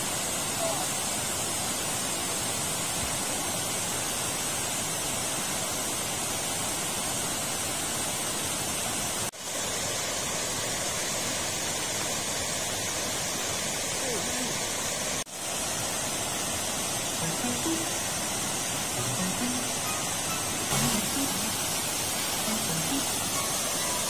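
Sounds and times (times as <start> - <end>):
water rushing over weir: 0.0 - 24.0.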